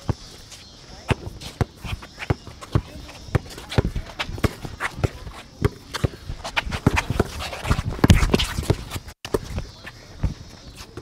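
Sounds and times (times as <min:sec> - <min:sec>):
running footsteps on court: 0:00.0 - 0:11.0.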